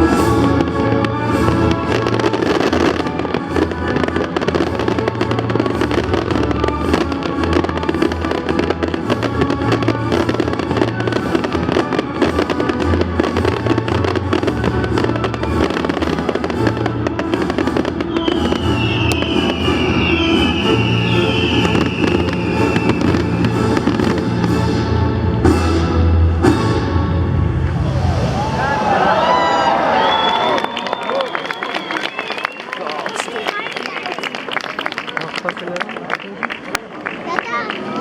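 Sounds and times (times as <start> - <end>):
fireworks crackling and popping: 0.0 - 24.6, 30.0 - 38.0.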